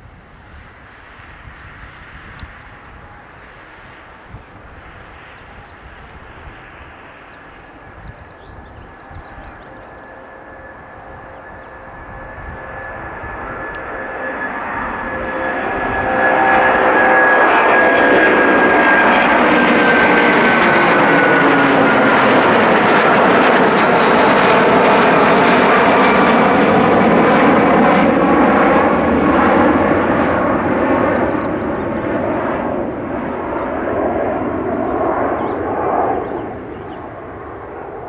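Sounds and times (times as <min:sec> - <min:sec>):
jet engine roar: 0:00.0 - 0:38.0.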